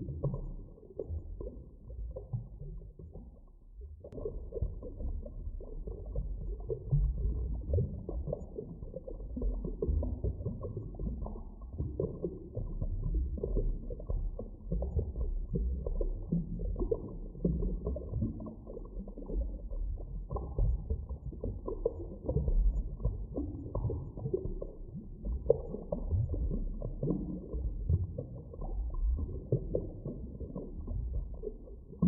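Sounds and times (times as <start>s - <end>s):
low underwater rumble: 0.0s - 32.0s.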